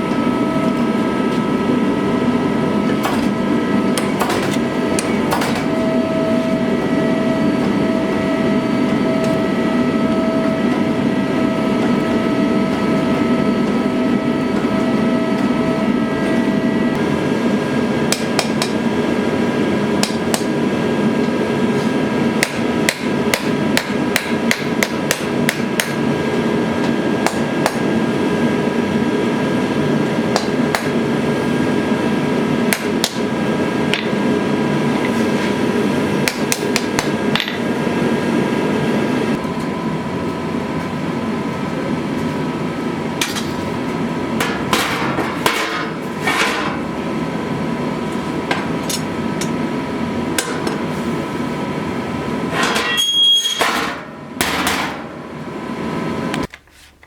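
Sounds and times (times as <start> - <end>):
steady background noise: 0.0 - 57.0.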